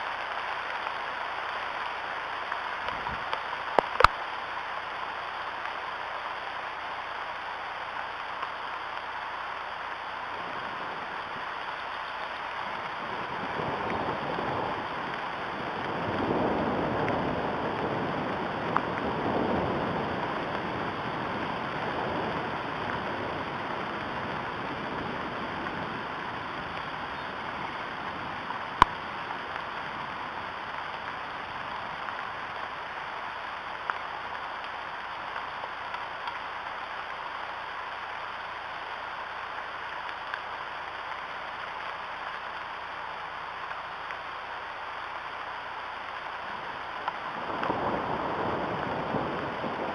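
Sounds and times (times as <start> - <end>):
rain falling on trees: 0.0 - 49.9.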